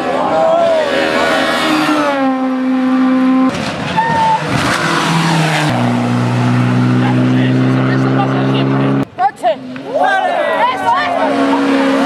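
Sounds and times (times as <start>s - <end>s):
rally car engine: 0.0s - 12.0s.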